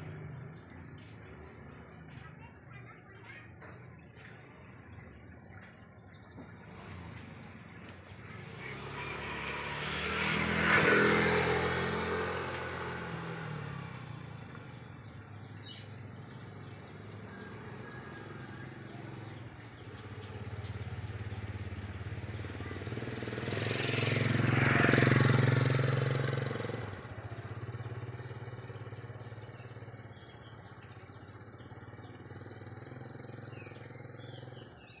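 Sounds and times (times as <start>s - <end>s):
faint engine hum: 0.0s - 35.0s
motor vehicles passing by: 0.0s - 35.0s.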